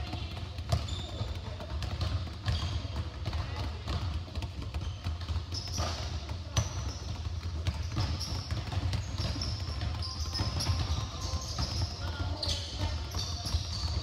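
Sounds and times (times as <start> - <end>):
basketballs bouncing on wooden floor: 0.0 - 14.0
sneakers squeaking: 0.0 - 14.0.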